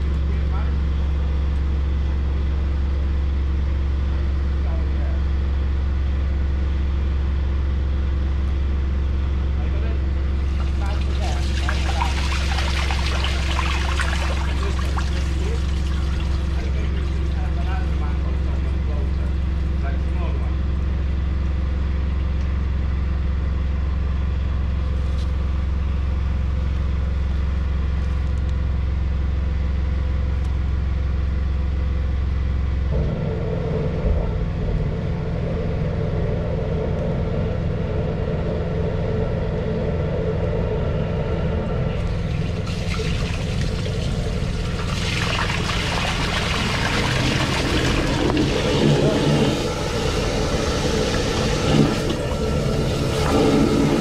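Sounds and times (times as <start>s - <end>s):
machine engine running: 0.0s - 54.0s.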